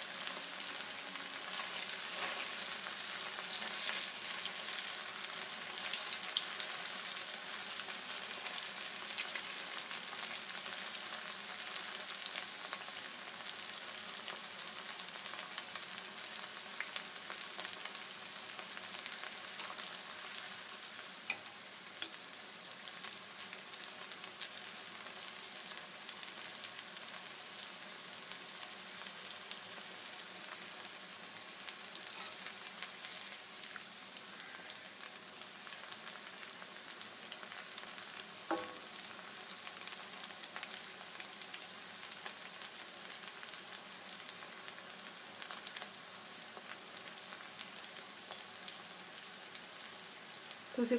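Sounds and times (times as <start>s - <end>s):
snacks sizzling in hot oil: 0.0s - 50.9s.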